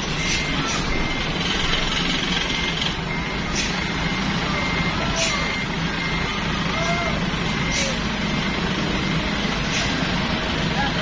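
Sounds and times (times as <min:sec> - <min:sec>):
reversing beeper beeps: 0:00.0 - 0:09.7
bus engine running: 0:00.0 - 0:11.0.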